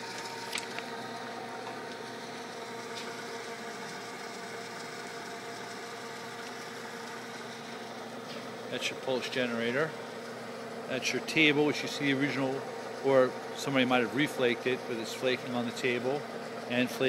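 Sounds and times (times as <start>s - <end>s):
milling machine buzzing hum: 0.0s - 17.0s.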